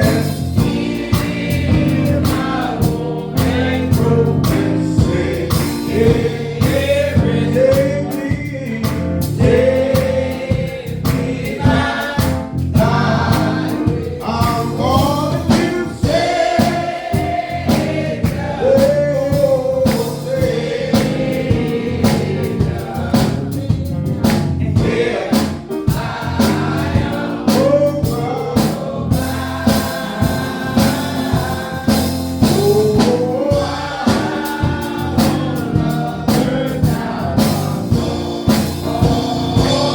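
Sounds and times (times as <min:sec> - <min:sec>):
band accompaniment: 0:00.0 - 0:39.9
choir singing gospel: 0:00.0 - 0:39.9
steady drum beat: 0:00.0 - 0:39.9.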